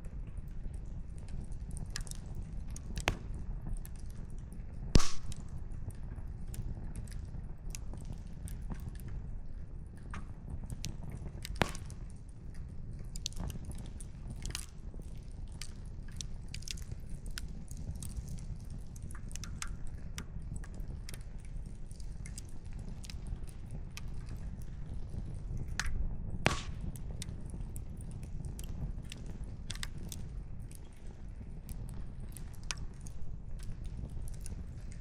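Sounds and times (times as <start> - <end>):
campfire crackling and popping: 0.4 - 35.0.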